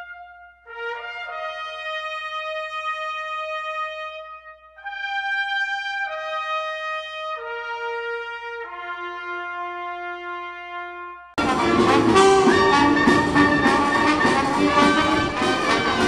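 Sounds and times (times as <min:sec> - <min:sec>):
slow brass melody: 0:00.0 - 0:16.0.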